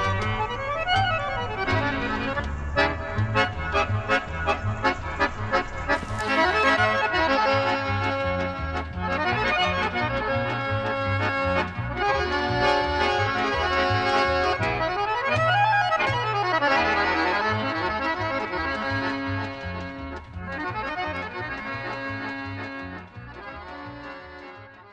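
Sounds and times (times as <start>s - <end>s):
instrumental background music: 0.0s - 24.9s.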